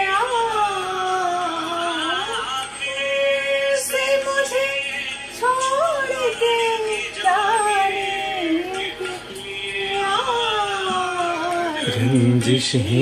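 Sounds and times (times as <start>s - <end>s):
woman singing unaccompanied: 0.0s - 12.4s.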